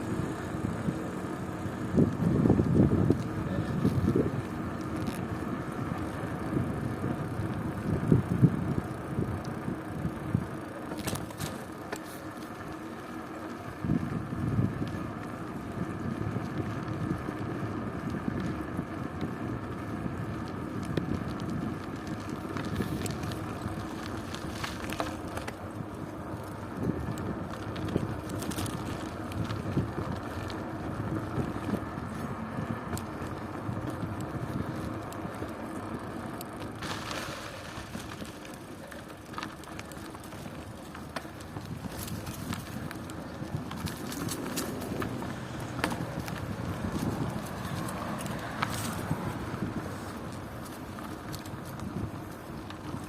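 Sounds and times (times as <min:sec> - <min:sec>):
wind buffeting microphone: 0:00.0 - 0:11.5, 0:13.7 - 0:53.0
bicycle tyre and drivetrain rumble: 0:00.0 - 0:53.0.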